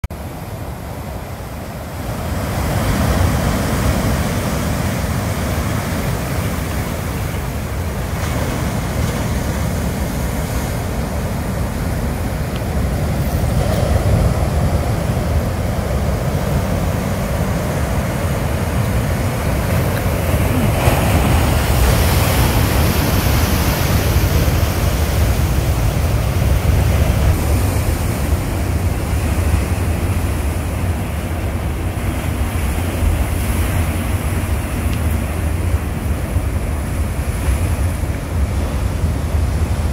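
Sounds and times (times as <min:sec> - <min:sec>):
wind on microphone: 0:01.2 - 0:39.9
surf breaking on rocks: 0:02.2 - 0:39.9.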